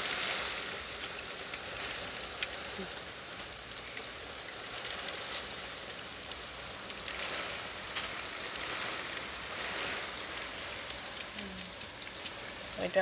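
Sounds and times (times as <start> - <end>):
heavy rain pouring: 0.0 - 13.0
raindrops ticking: 0.0 - 13.0.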